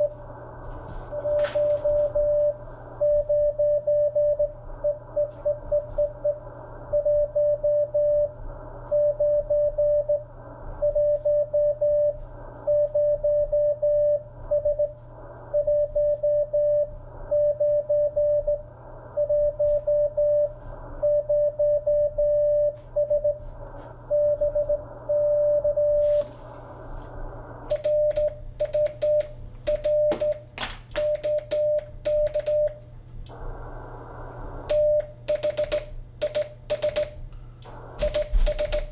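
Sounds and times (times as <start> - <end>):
receiver hiss: 0.0 - 38.9
morse code beeps: 1.1 - 10.2, 10.8 - 18.6, 19.2 - 23.4, 24.1 - 26.2, 27.7 - 32.8, 34.7 - 37.2, 38.0 - 38.9.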